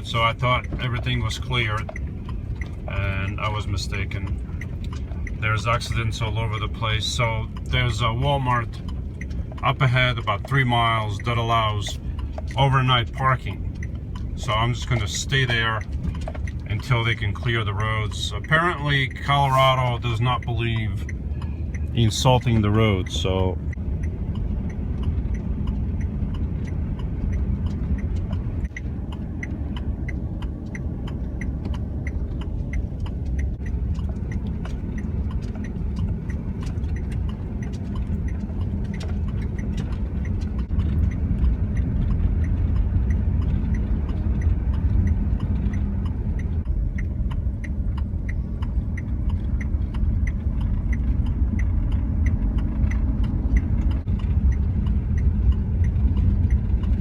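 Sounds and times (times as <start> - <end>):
light ticking: 0.0 - 57.0
van engine and tyre rumble: 0.0 - 57.0.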